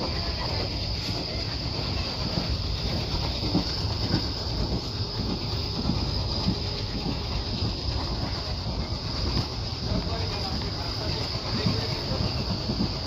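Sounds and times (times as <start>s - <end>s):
train rumble and hiss: 0.0s - 13.0s
wheels clacking over track: 0.0s - 13.0s.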